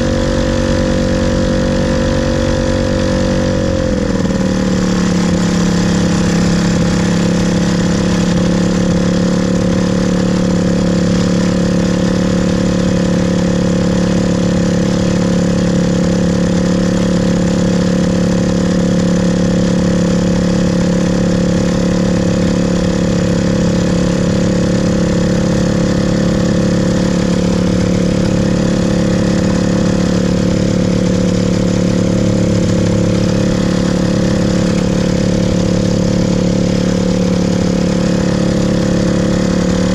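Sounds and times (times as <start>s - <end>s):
aircraft engine idling: 0.0s - 39.9s.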